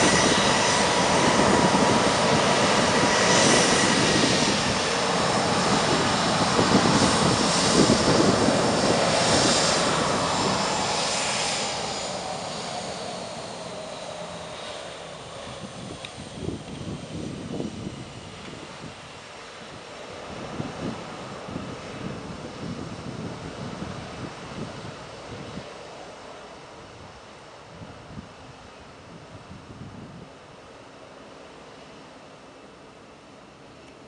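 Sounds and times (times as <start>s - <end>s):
high engine whine: 0.0s - 28.2s
jet engines at taxi power: 0.0s - 34.0s.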